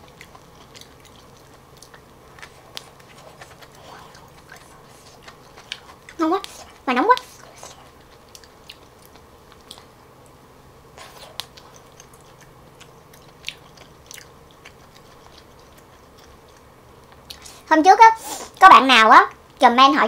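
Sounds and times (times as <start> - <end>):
chewing with wet mouth clicks: 0.0 - 10.4, 11.0 - 17.5.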